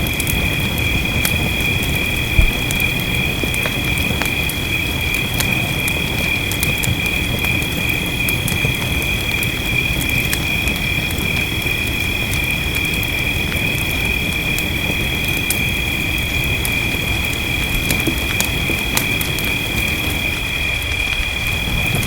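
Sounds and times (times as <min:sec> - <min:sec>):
rain hiss: 0:00.0 - 0:22.0
wood fire crackling: 0:00.0 - 0:22.0.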